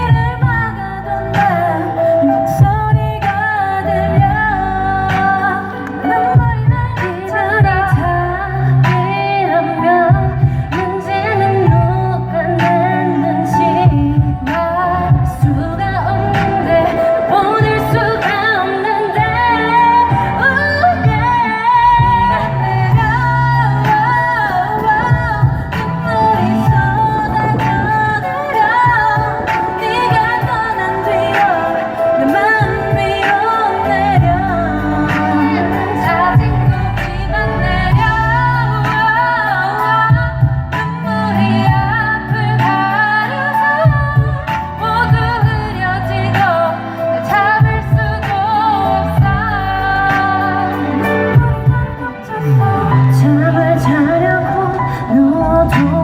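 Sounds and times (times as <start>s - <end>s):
pop song with woman singing: 0.0s - 56.0s.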